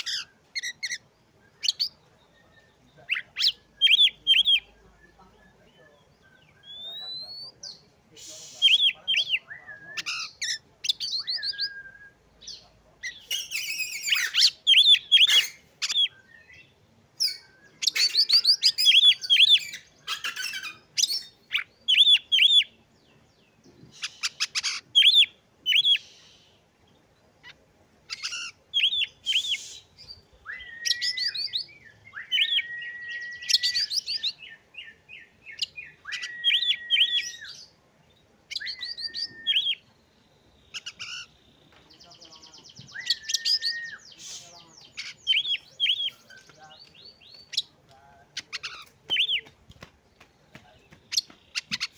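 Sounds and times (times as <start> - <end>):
bird singing varied song: 0.0 - 51.9.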